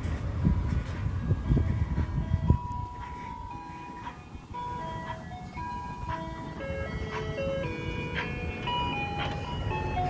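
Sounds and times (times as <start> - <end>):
ice cream truck chime jingle: 1.1 - 10.0.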